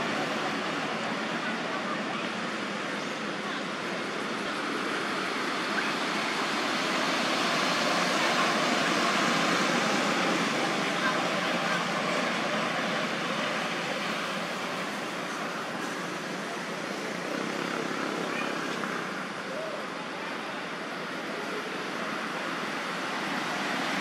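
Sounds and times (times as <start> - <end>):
outdoor park ambience: 0.0 - 24.0.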